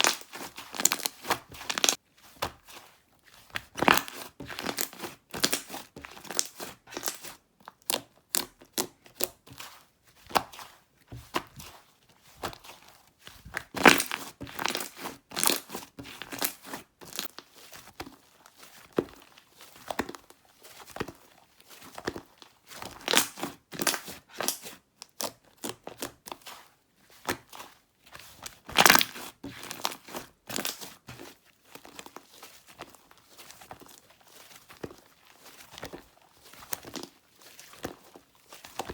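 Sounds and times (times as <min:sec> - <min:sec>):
slime squished by hand: 0:00.0 - 0:02.7, 0:03.5 - 0:10.6, 0:13.4 - 0:21.2, 0:21.8 - 0:26.6, 0:28.4 - 0:38.9.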